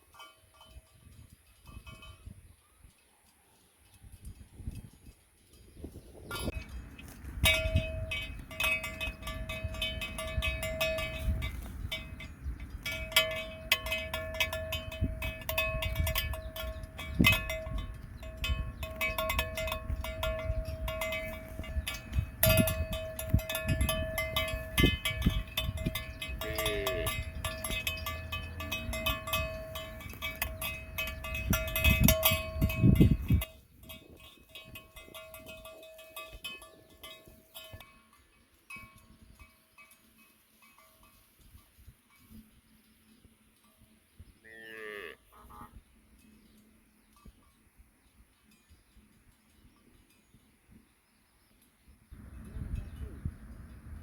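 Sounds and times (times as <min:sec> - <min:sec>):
cowbells clanking: 0:00.0 - 0:02.6, 0:04.0 - 0:54.0.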